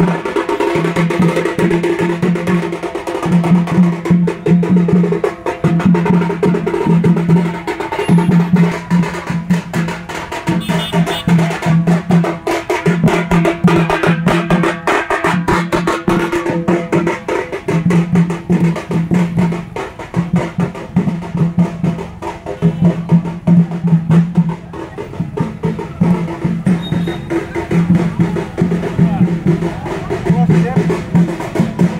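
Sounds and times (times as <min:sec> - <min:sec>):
music with fast drumming: 0:00.0 - 0:31.9.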